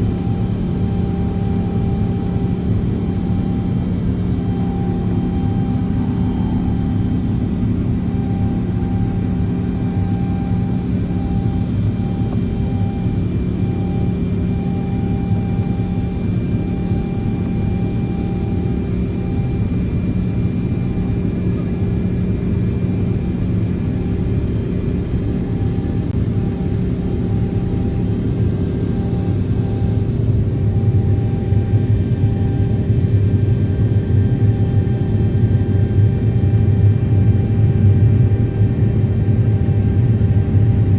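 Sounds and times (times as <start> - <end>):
jet engines humming in cabin: 0.0 - 40.9.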